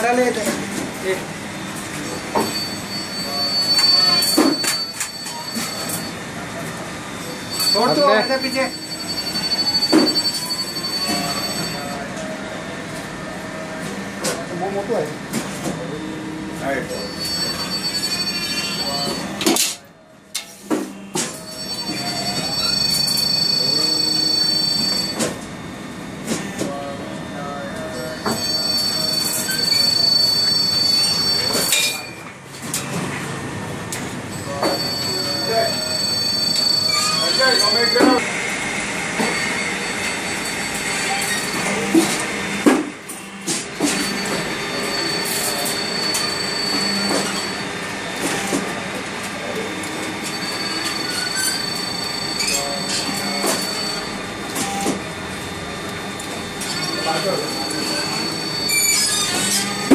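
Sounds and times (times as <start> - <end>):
roll forming machine squealing whine: 0.0 - 59.9.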